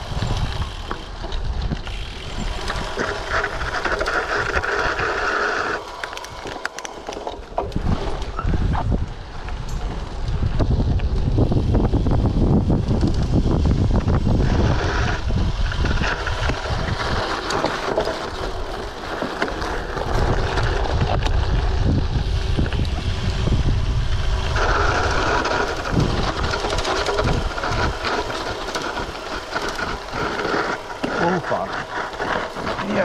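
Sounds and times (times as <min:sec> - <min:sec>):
bike tyres rolling on dirt: 0:00.0 - 0:33.0
wind buffeting microphone: 0:00.0 - 0:33.0
bike knocks and rattles: 0:05.9 - 0:33.0.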